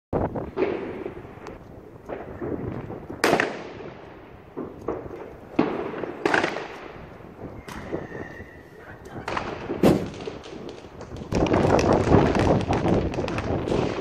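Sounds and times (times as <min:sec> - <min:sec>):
fireworks bangs echoing: 0:00.2 - 0:14.0.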